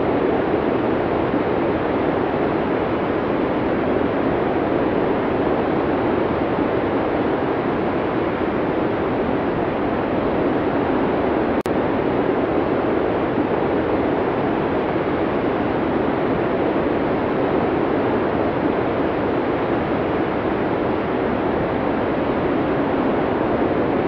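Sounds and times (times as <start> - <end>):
blizzard wind rushing: 0.0 - 24.0.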